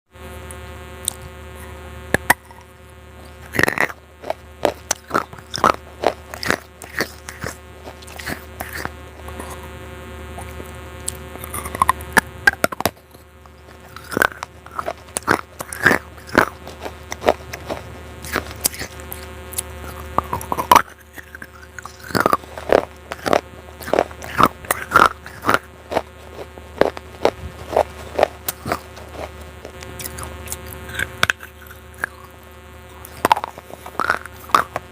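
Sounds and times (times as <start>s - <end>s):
steady buzzing hum: 0.1s - 34.9s
crisp crunches of chewing: 1.0s - 34.9s.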